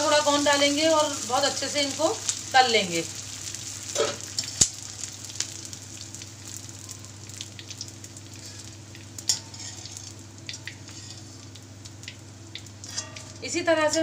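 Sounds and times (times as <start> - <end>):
deep-frying sizzle: 0.0 - 14.0.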